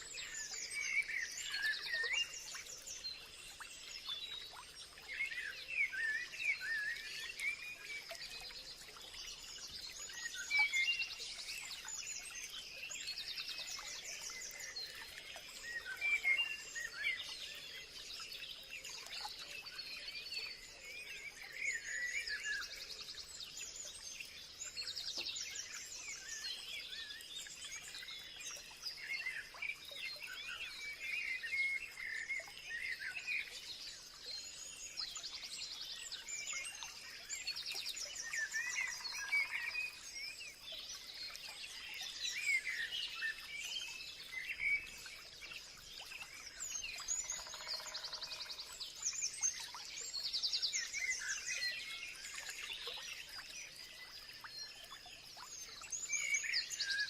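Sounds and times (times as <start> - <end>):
songbirds chirping in chorus: 0.0 - 57.0.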